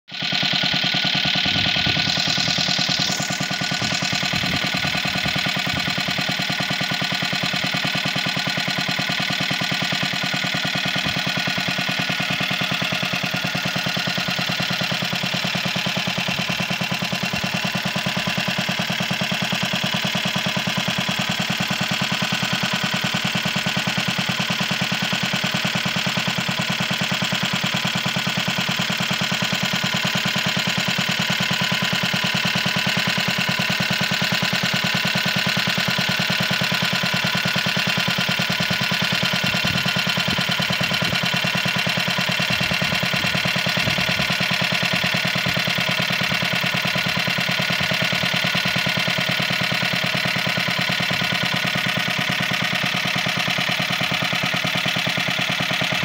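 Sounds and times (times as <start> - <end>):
single-cylinder engine running: 0.1 - 56.0.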